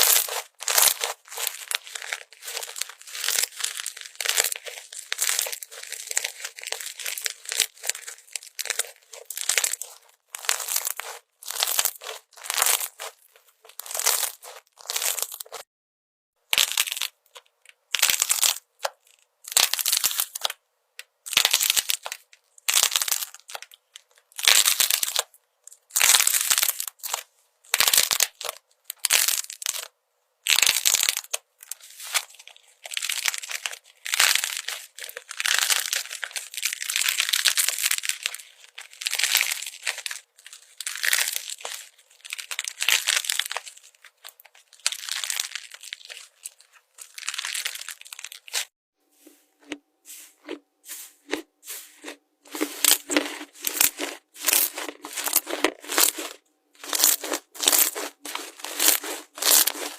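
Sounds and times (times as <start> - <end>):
slime being squished: 0.0 - 15.6, 16.6 - 20.6, 21.3 - 25.3, 25.9 - 29.9, 30.5 - 48.7, 51.2 - 59.9.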